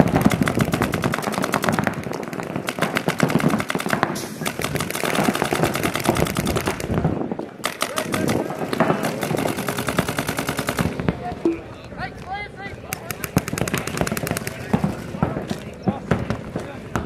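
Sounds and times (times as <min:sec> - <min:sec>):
paintball markers firing: 0:00.0 - 0:07.0, 0:07.6 - 0:11.6, 0:12.9 - 0:17.0.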